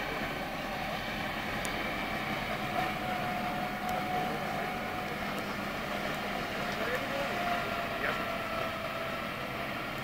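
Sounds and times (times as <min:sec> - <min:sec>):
diesel truck engine running: 0:00.0 - 0:10.0
steady whine: 0:00.0 - 0:10.0.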